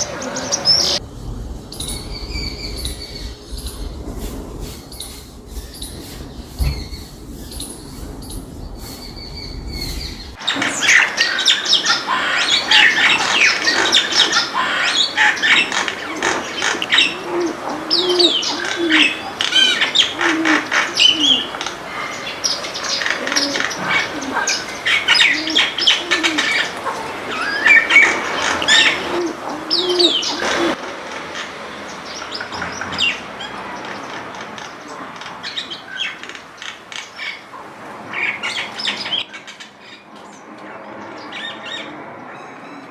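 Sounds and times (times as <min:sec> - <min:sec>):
birds chirping and calling: 0:00.0 - 0:30.8, 0:31.4 - 0:42.9.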